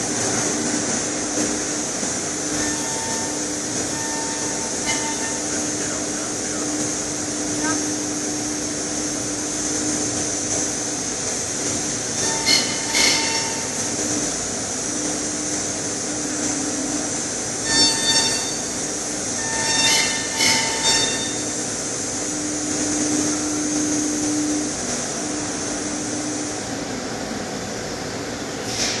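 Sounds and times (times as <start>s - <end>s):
lathe spindle whine: 1.1s - 27.4s.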